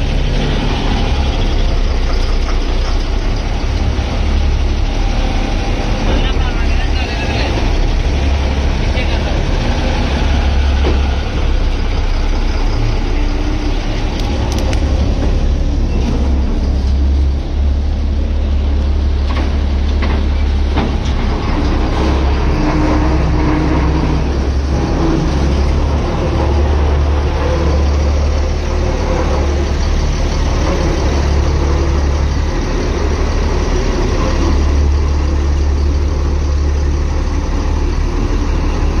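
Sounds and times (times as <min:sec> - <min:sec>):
diesel engine rumbling: 0:00.0 - 0:39.0.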